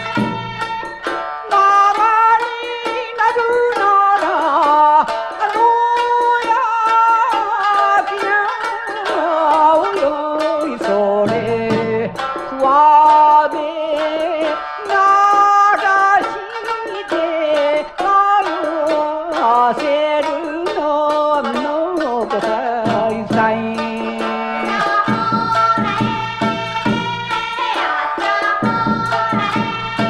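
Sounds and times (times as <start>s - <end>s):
folk song with plucked strings: 0.0s - 30.0s.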